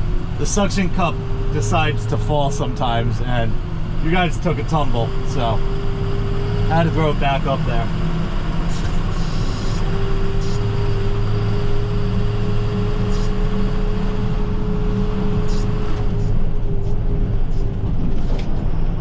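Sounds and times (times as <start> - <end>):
steady whine: 0.0 - 19.0
truck engine and road rumble: 0.0 - 19.0.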